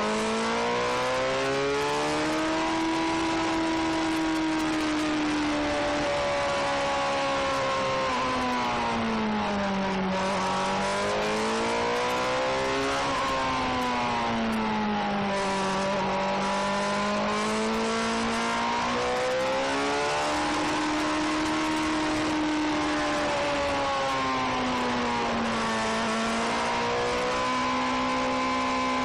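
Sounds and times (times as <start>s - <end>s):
sport bike engine: 0.0s - 29.0s.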